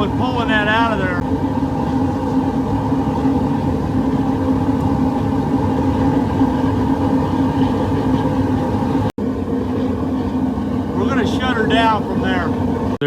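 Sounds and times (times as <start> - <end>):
propane burner rumbling: 0.0 - 13.0.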